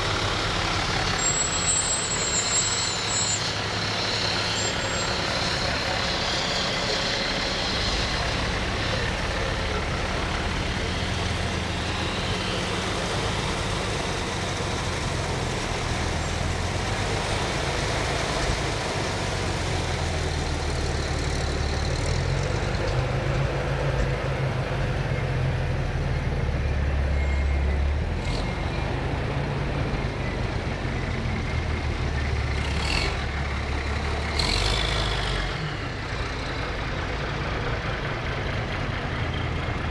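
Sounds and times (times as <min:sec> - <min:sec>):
crowd noise: 0:00.0 - 0:39.9
fire truck engines rumbling: 0:00.0 - 0:39.9
road noise: 0:00.0 - 0:39.9.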